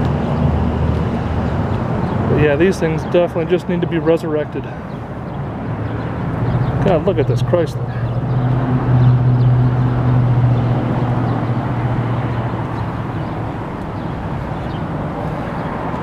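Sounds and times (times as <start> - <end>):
rushing outdoor background noise: 0.0 - 16.0
vehicle engine hum: 0.0 - 16.0.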